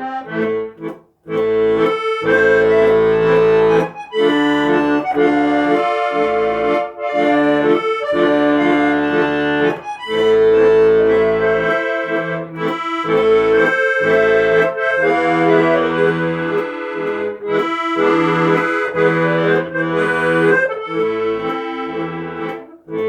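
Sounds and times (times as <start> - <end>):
accordion music: 0.0 - 23.0.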